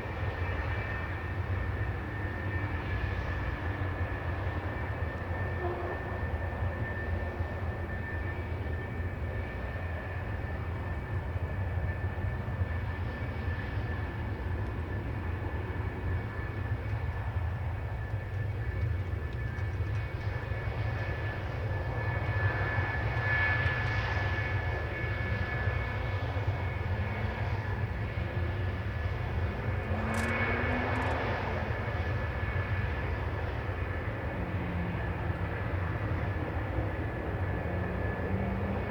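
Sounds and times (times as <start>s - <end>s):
jet engine rushing with whine: 0.0s - 38.9s.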